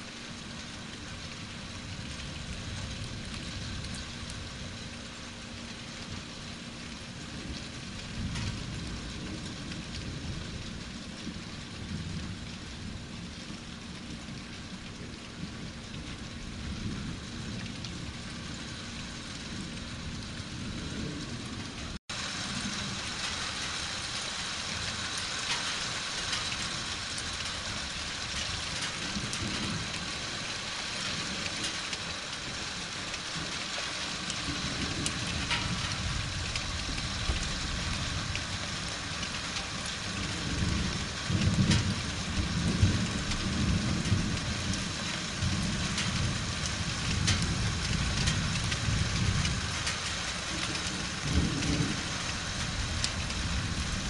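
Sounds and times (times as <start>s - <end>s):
low rolling thunder: 0.0s - 54.0s
rain falling: 0.0s - 54.0s.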